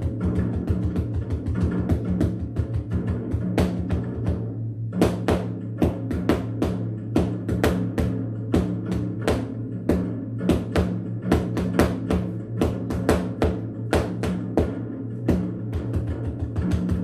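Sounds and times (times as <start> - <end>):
recorded song bass notes: 0.0 - 17.0.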